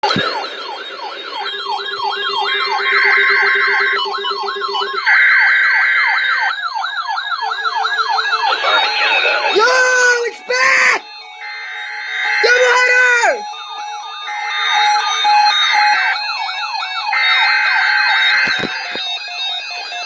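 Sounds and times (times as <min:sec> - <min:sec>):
electronic sirens sweeping: 0:00.0 - 0:20.0
steady alarm tones: 0:00.0 - 0:20.0.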